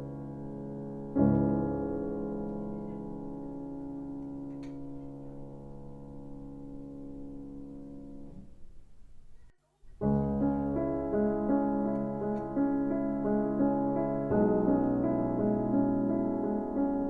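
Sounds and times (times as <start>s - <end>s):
piano music: 0.0s - 8.8s, 10.0s - 17.0s.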